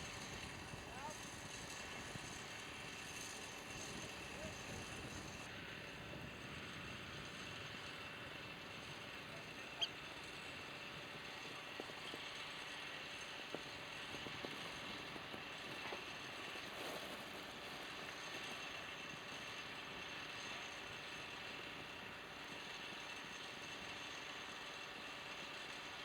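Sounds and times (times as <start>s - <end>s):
machinery hum with high whine: 0.0s - 26.0s.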